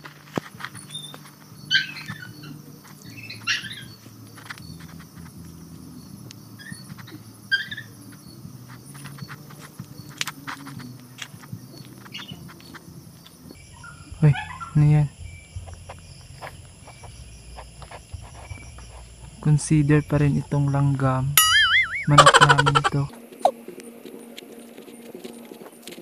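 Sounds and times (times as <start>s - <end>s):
crickets chirping: 0.0s - 26.0s
leaves and branches rustling: 0.0s - 26.0s.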